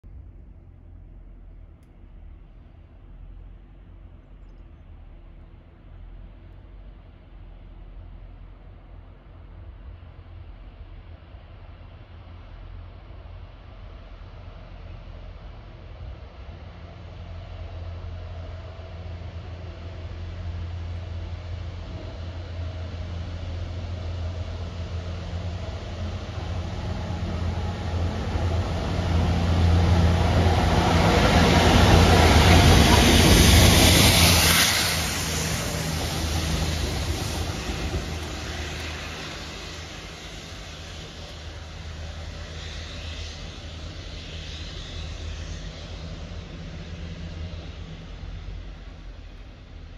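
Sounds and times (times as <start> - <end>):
diesel locomotive engine hum: 0.0 - 49.9
train rumbling on rails: 0.0 - 49.9.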